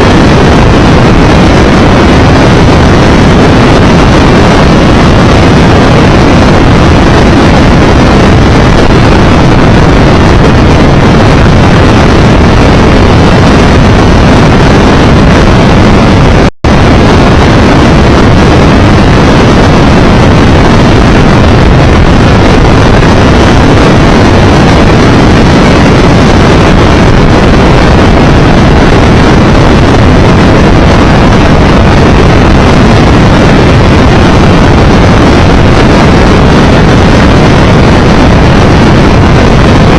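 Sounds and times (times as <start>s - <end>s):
road noise: 0.0s - 39.9s
wind rushing over microphone: 0.0s - 39.9s.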